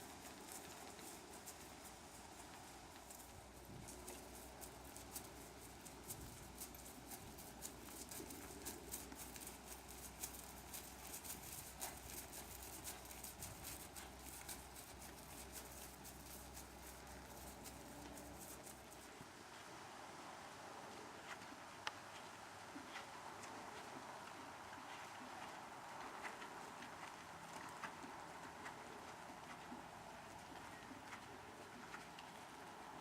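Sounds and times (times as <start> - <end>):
horse hoofbeats on soft footing: 0.0 - 19.3, 21.2 - 33.0.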